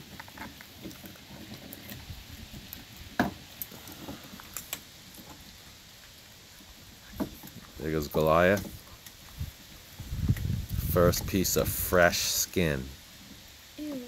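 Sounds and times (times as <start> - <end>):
puppies gnawing bones on wood: 0.0 - 11.4.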